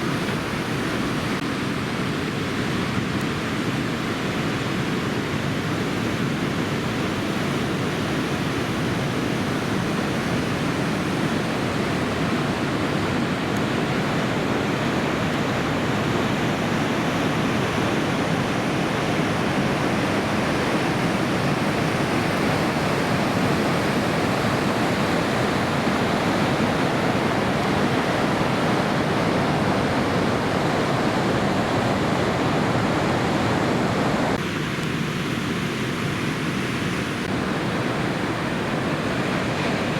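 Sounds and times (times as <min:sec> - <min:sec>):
heavy surf rushing: 0:00.0 - 0:39.9.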